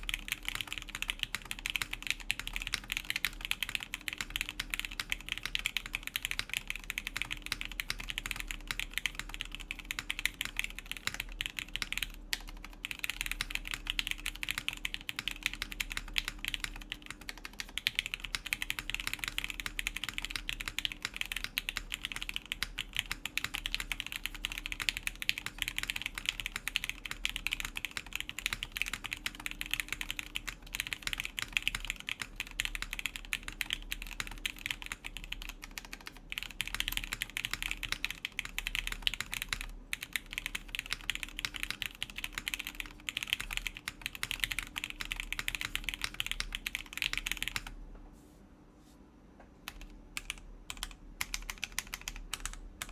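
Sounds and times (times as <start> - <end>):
mechanical keyboard typing: 0.0 - 47.8, 49.7 - 52.9.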